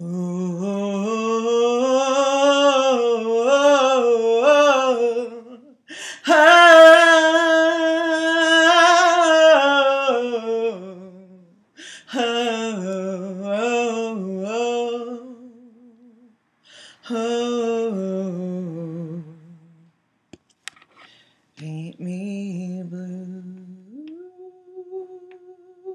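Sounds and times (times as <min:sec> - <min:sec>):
person singing wordless lines: 0:00.0 - 0:19.9, 0:21.6 - 0:25.9.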